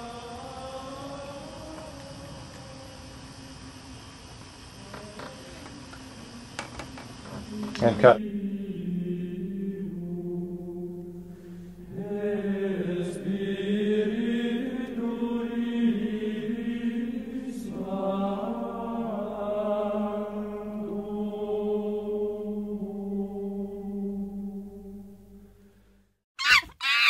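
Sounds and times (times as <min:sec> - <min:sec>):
chant-like vocal drone: 0:00.0 - 0:25.8.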